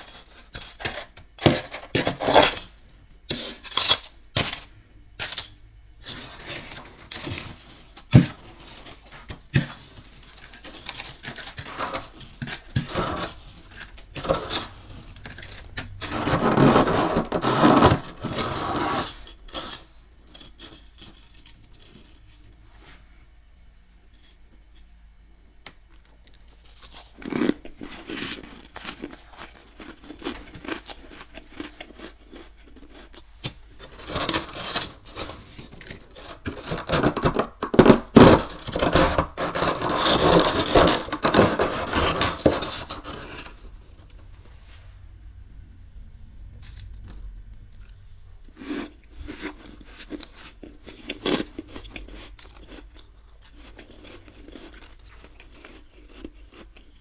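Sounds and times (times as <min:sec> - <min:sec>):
spoon scraping frost: 0:00.0 - 0:23.0, 0:26.6 - 0:44.8, 0:46.6 - 0:57.0.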